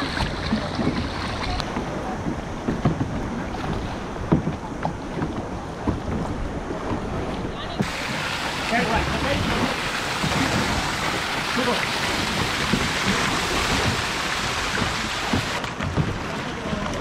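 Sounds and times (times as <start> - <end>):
moving sea water: 0.0 - 17.0
paddle splashes and knocks: 0.0 - 17.0.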